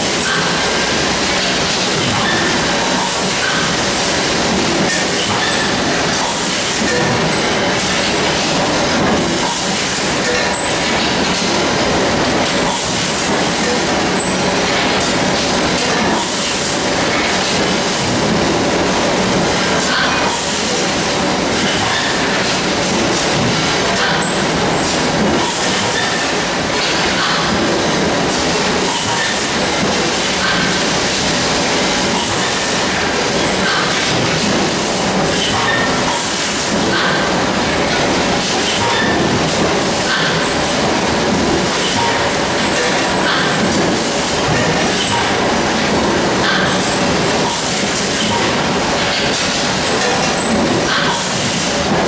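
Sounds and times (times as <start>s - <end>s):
loud mechanical running noise: 0.0s - 52.0s.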